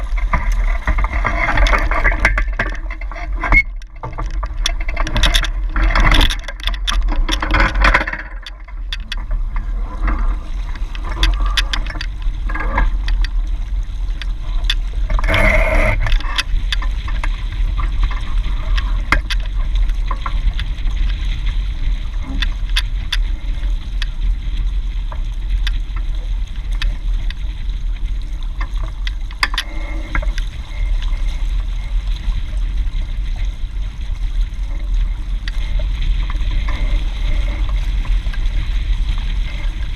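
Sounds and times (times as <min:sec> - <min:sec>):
water splashing along a hull: 0:00.0 - 0:39.9.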